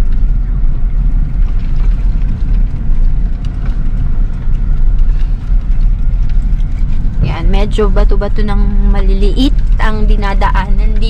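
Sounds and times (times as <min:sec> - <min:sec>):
car rumbling on dirt road: 0:00.0 - 0:11.0.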